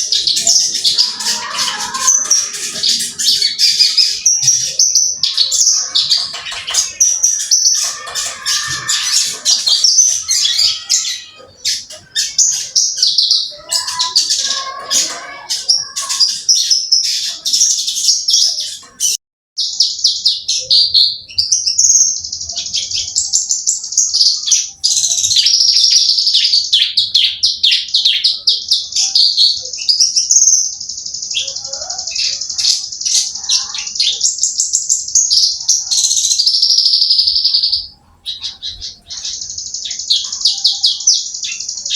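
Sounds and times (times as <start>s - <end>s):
bird singing high chirps and trills: 0.0s - 41.9s.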